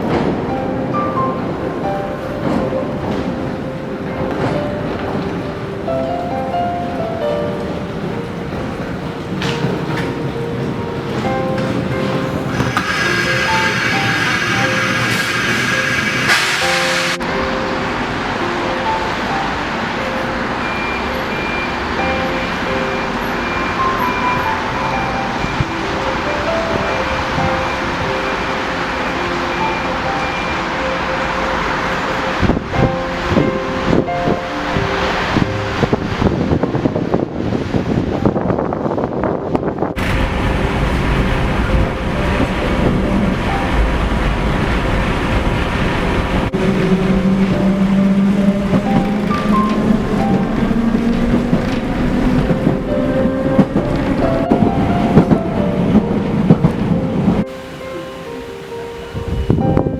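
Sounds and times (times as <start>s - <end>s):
electric train running: 0.0s - 59.9s.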